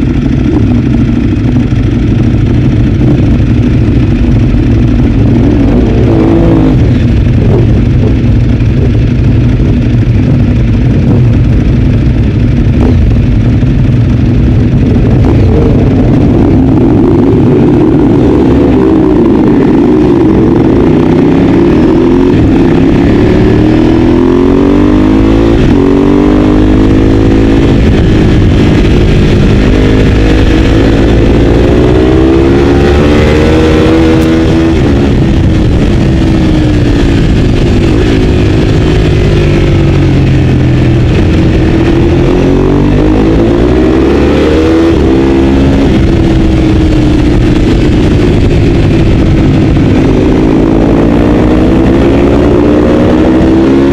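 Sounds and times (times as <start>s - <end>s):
motorcycle engine at racing speed: 0.0s - 53.9s.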